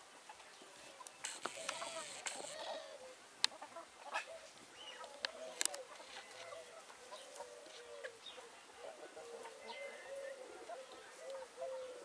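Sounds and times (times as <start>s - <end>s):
chickens clucking softly: 0.2s - 12.0s.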